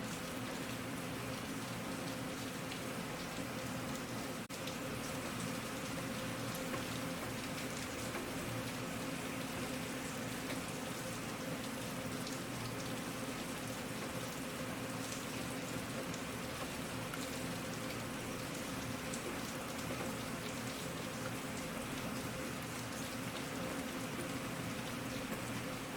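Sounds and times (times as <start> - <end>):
rain falling: 0.0 - 25.9
raindrops pattering on a surface: 0.0 - 25.9.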